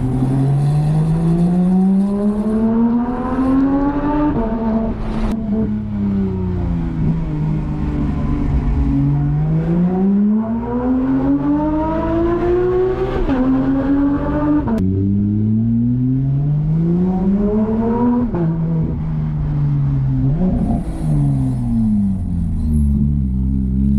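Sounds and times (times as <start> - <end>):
sports car accelerating: 0.0 - 23.9.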